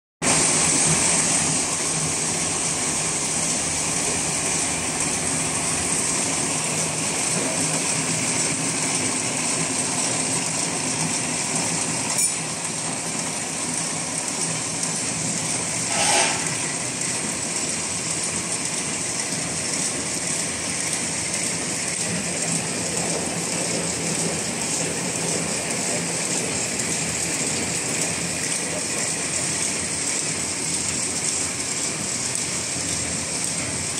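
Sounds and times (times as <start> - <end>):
packaging machine clatter and whir: 0.2 - 33.9.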